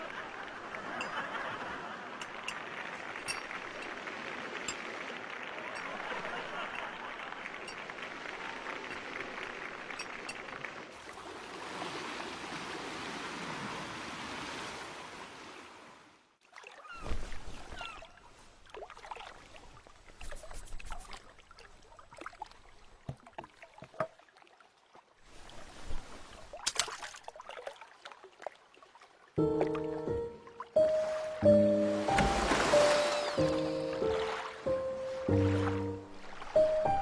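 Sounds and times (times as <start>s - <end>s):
sea water lapping: 0.0s - 37.0s.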